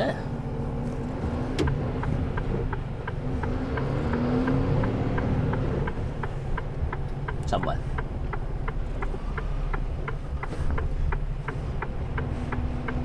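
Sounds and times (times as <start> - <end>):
diesel engine rumbling: 0.0 - 13.0
turn signal relay ticking: 0.0 - 13.0.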